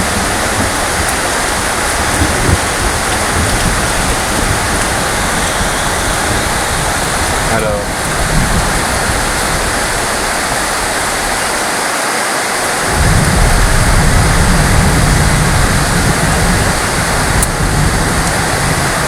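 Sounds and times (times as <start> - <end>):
low thunder rumble: 0.0 - 11.6, 12.8 - 19.0
heavy rain falling: 0.0 - 19.0.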